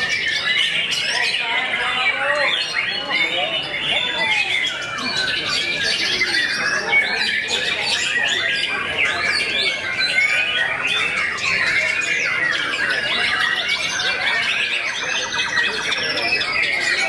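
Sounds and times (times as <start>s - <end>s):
many birds singing: 0.0s - 17.0s.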